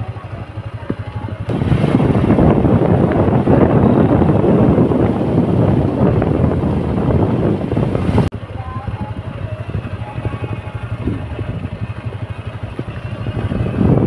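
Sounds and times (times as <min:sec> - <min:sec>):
motorcycle engine: 0:00.0 - 0:14.0
wind buffeting microphone: 0:00.0 - 0:14.0.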